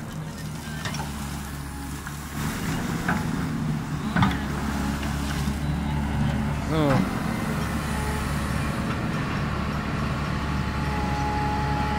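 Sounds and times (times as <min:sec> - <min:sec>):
excavator diesel engine under load: 0:00.0 - 0:11.9.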